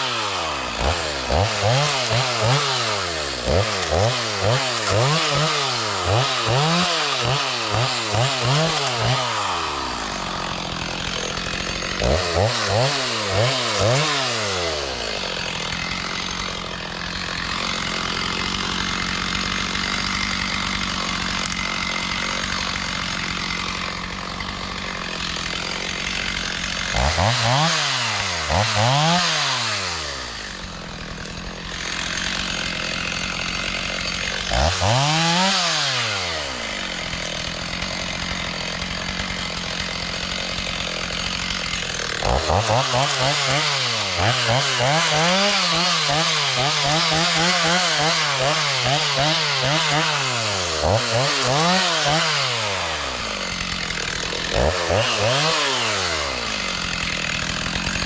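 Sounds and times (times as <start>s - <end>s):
chainsaw idling: 0.0s - 58.0s
chainsaw revving: 0.0s - 58.0s.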